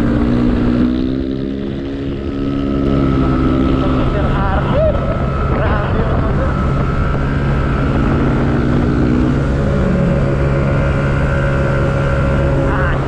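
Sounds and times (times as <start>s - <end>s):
scooter engine droning: 0.0s - 13.0s.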